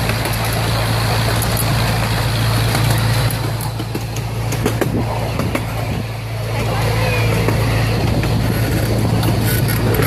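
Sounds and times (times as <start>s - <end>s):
miniature train locomotive drone: 0.0s - 10.0s
train cars rolling rumble: 0.0s - 10.0s.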